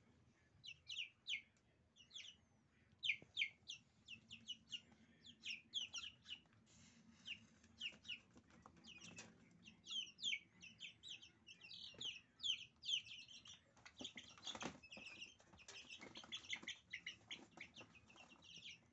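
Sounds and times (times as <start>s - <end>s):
chicks peeping: 0.4s - 18.9s.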